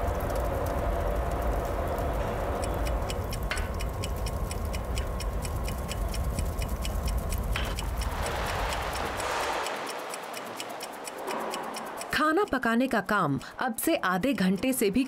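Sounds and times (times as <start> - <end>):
furnace fire rumbling: 0.0 - 12.7
fast even ticking: 2.5 - 15.0.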